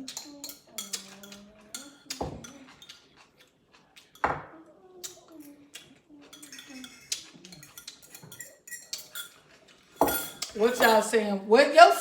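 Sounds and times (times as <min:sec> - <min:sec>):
cutlery and dishes clinking: 0:00.0 - 0:11.1.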